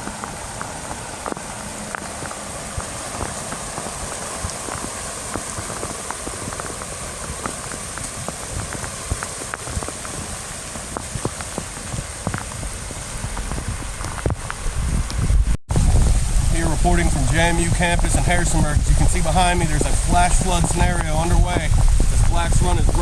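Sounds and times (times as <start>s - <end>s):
heavy rain falling: 0.0s - 23.0s
raindrops ticking close by: 0.0s - 23.0s.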